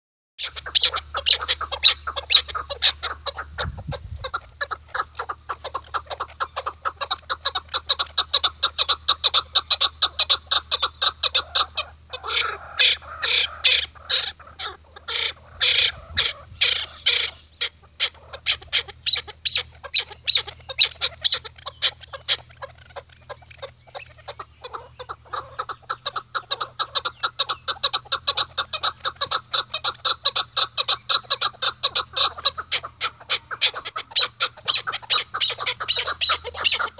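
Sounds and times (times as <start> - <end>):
partridge clucking calls: 0.4 - 36.9.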